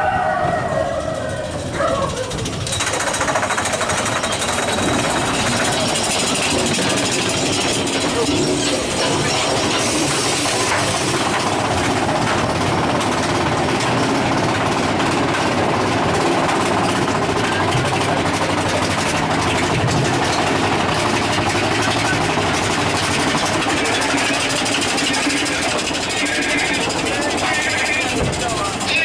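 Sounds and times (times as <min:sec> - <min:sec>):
roller coaster wheels clattering: 0:00.0 - 0:29.0.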